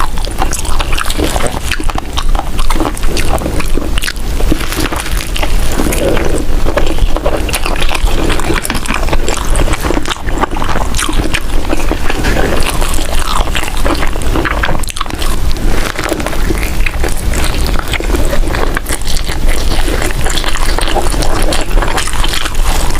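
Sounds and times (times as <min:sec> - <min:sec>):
chewing with wet crunches: 0:00.0 - 0:22.9.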